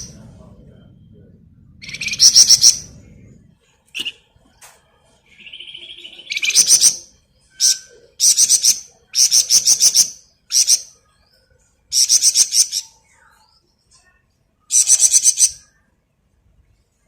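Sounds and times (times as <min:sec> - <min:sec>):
songbird singing: 0:00.0 - 0:15.9.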